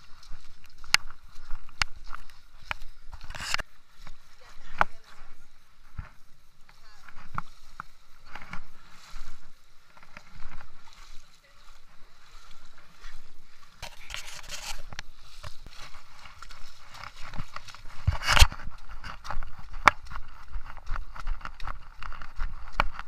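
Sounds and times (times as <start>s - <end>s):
feet splashing through muddy water: 0.0s - 23.0s.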